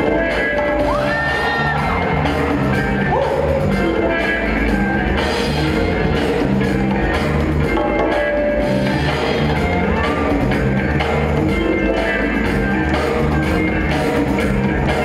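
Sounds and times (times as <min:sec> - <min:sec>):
drum and bass music over loudspeakers: 0:00.0 - 0:15.0.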